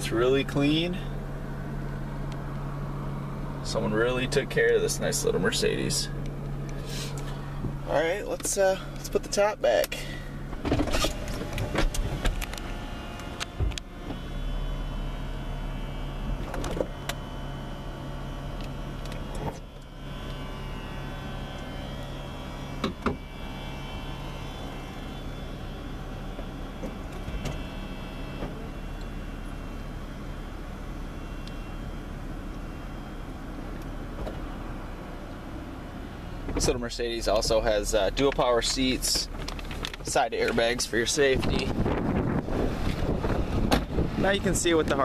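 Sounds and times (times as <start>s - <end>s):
hydraulic pump hum: 0.0s - 45.0s.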